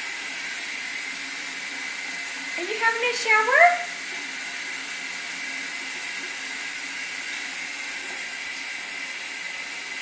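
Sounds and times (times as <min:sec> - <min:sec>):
shower water running: 0:00.0 - 0:10.0.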